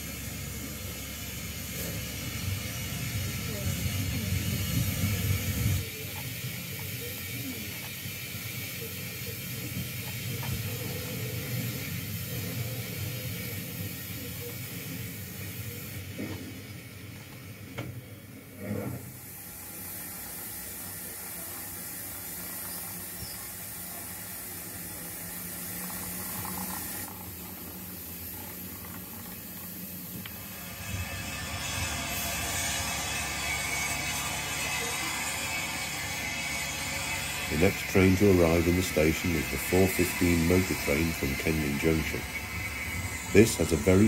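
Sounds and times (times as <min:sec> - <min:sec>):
steam hissing: 0:00.0 - 0:44.0.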